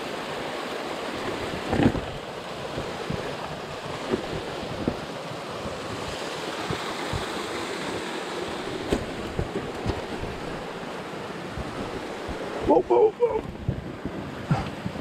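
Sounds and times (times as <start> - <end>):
water rushing from waterfall: 0.0 - 15.0.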